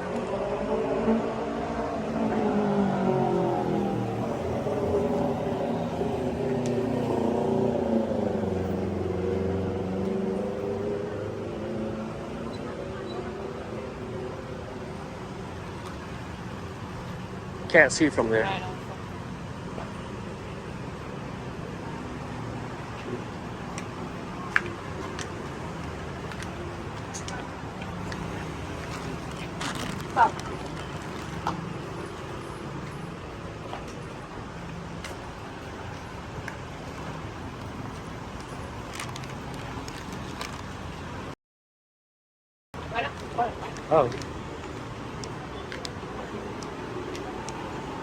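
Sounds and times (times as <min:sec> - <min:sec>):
vehicle engines in traffic: 0:00.0 - 0:41.4, 0:42.8 - 0:48.0.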